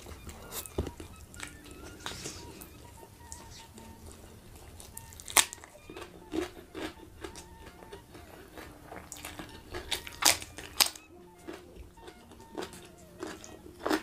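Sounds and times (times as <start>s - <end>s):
crunching and chewing vegetable: 0.0s - 14.0s.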